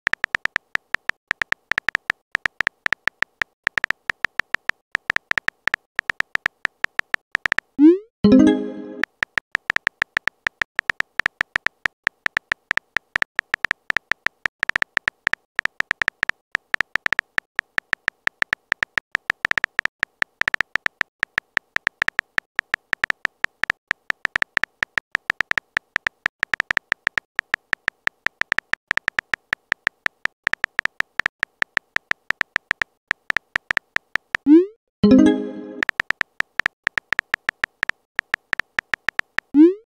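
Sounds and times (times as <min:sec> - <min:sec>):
keyboard typing clicks: 0:00.1 - 0:39.8.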